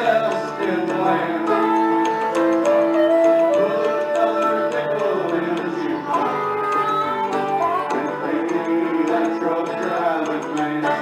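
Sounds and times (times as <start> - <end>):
harmonica long reedy note: 0.0 - 9.6
strummed guitar: 0.0 - 11.0.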